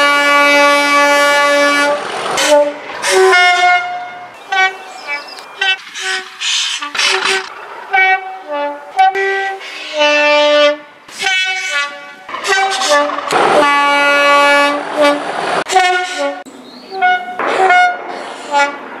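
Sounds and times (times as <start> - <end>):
train noise: 0.0 - 19.0
two-tone locomotive horn blasts: 0.0 - 19.0.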